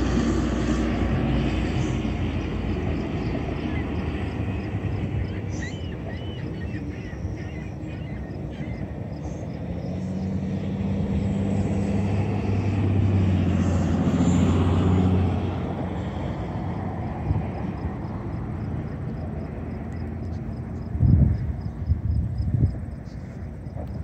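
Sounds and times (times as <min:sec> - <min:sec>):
passing motor traffic: 0:00.0 - 0:24.0.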